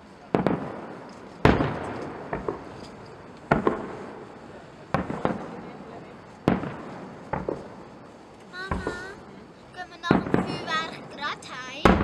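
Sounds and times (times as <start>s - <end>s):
small firework pops: 0.0s - 9.4s, 10.0s - 12.0s
firework shells bursting: 0.0s - 12.0s.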